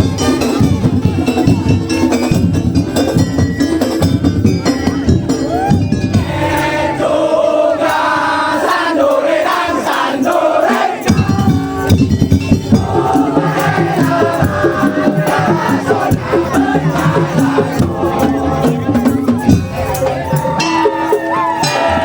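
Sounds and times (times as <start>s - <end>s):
drums and clattering percussion: 0.0s - 22.0s
wavering melody: 0.0s - 22.0s.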